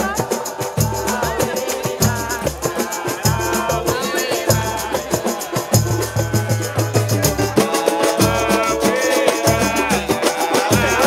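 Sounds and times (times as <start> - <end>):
banjo: 0.0 - 11.0
large hand drum: 0.0 - 11.0
person singing: 0.0 - 11.0
quick percussion beat: 0.0 - 11.0.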